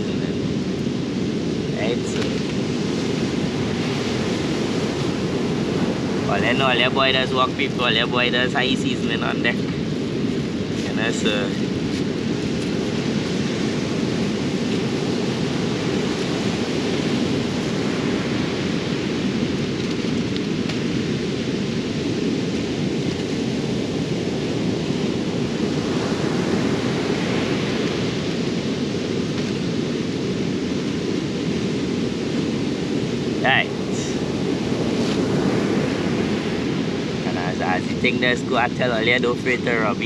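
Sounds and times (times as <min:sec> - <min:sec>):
wind on microphone: 0:00.0 - 0:40.0
surf breaking on beach: 0:01.4 - 0:40.0.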